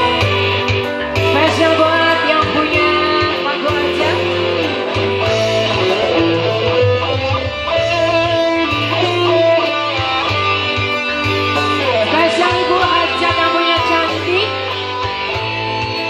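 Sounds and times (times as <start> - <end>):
electric guitar: 0.0 - 16.0
keyboard: 0.0 - 16.0
steady bass line: 0.0 - 16.0.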